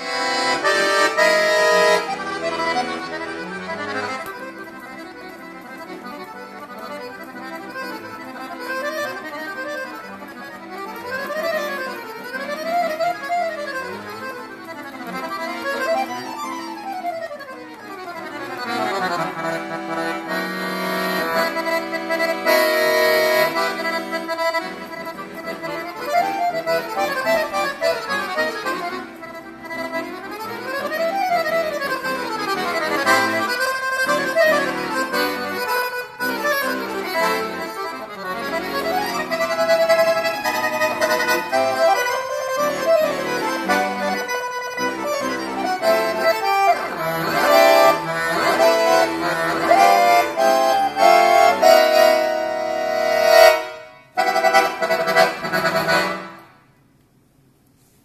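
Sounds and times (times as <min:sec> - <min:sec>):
accordion playing classical piece: 0:00.0 - 0:58.0.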